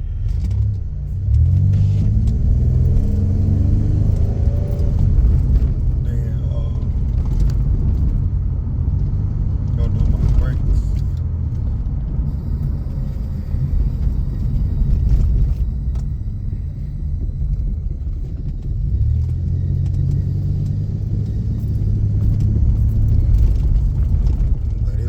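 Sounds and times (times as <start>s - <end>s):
car engine rumble: 0.0s - 25.0s
road noise inside car: 0.0s - 25.0s.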